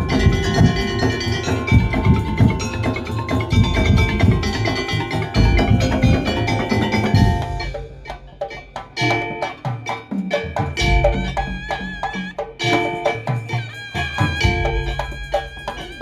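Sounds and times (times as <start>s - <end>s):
heavy drumming: 0.0s - 16.0s
struck melodic percussion notes: 0.0s - 16.0s
wavering melody line: 0.0s - 16.0s.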